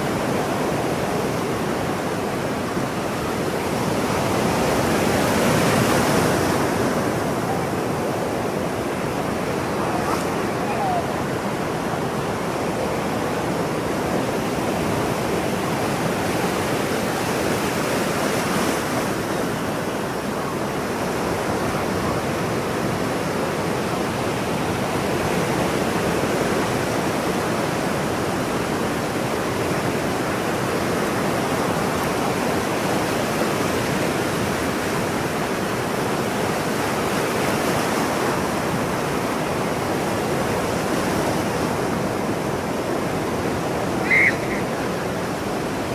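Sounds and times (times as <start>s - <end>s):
ocean surf washing: 0.0s - 45.9s.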